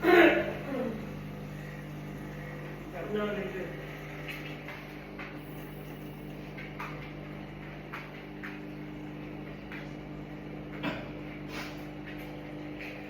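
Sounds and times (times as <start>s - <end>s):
coffee machine electrical hum: 0.0s - 13.0s.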